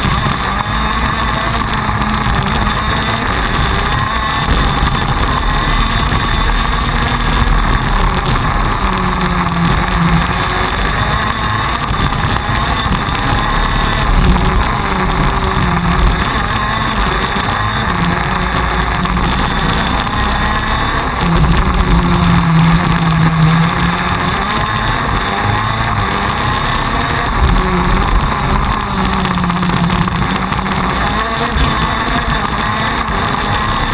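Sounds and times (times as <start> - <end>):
kart engine revving: 0.0 - 33.9.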